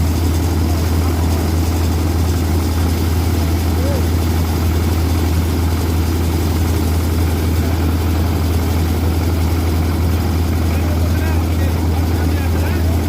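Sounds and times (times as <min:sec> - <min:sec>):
rice thresher droning: 0:00.0 - 0:13.0.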